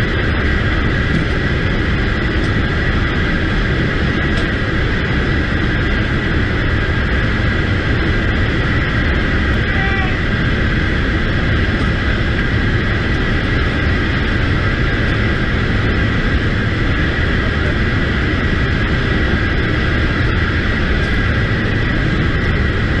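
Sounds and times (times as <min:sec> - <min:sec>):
aircraft engines roaring: 0:00.0 - 0:23.0
steady high whine: 0:00.0 - 0:23.0.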